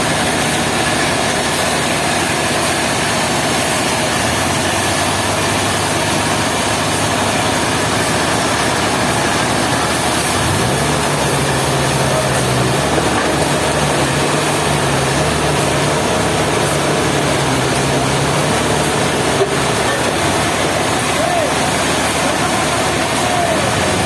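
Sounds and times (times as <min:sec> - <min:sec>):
heavy engine running: 0:00.0 - 0:24.0
loud machine noise: 0:00.0 - 0:24.0.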